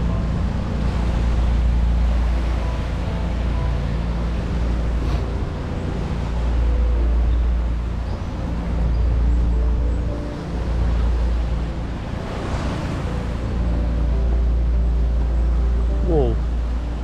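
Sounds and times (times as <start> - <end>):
city noise: 0.0 - 17.0.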